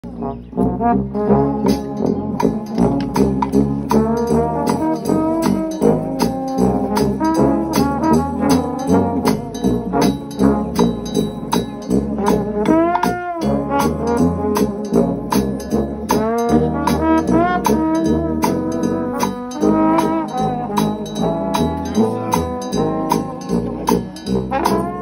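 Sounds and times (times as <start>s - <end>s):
brass band playing up-tempo tune: 0.0s - 25.0s
snare drum and cymbal beat: 1.7s - 25.0s.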